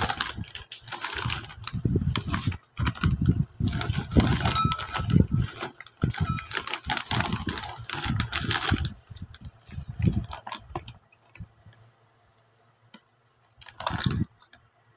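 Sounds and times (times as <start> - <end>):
plastic snack bag crinkling: 0.0 - 11.4, 13.5 - 14.6.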